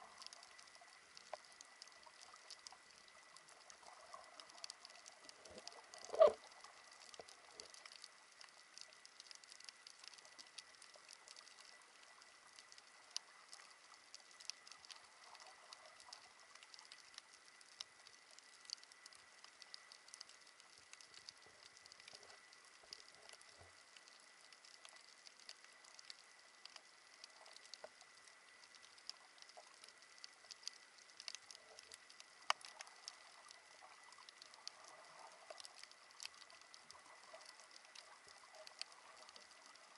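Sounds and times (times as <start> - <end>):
snapping shrimp clicks underwater: 0.1 - 39.9.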